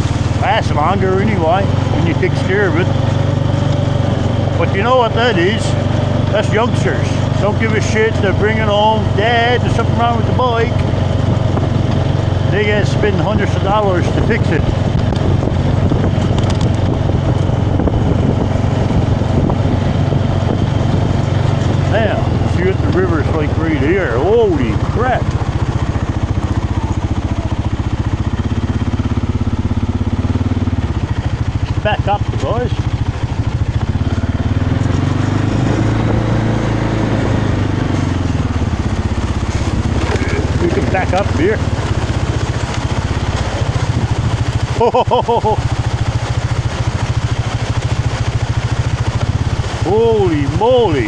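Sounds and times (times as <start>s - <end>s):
motorbike engine droning: 0.0s - 51.0s
wind rushing over microphone: 0.0s - 51.0s.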